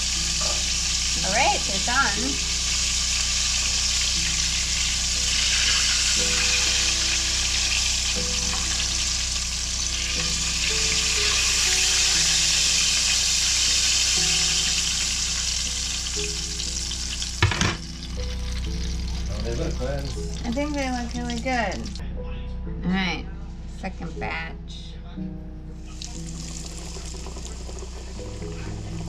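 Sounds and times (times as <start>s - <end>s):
fish deep-frying in oil: 0.0s - 22.0s, 26.0s - 29.0s.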